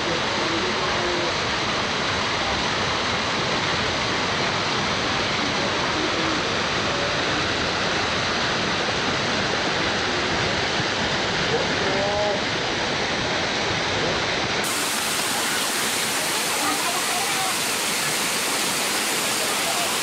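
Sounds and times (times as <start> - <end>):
water cascading over rocks: 0.0 - 20.0.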